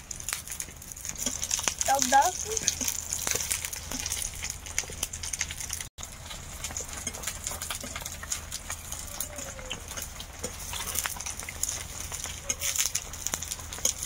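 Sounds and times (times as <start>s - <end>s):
food frying in hot oil: 0.0s - 14.0s.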